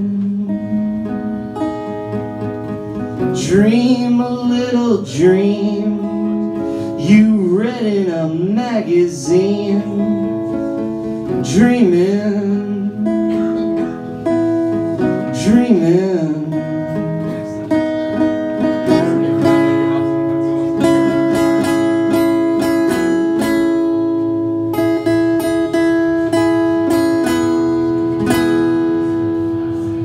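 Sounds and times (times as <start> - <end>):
acoustic guitar strummed: 0.0 - 30.0.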